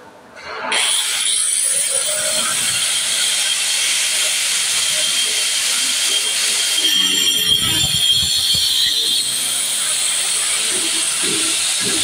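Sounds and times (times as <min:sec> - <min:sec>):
angle grinder whining: 0:01.9 - 0:12.0.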